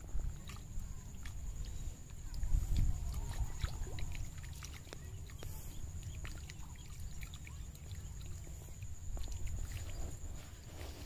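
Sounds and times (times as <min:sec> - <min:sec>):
light water ticks: 0:00.0 - 0:11.0
low water rumble: 0:00.0 - 0:11.0.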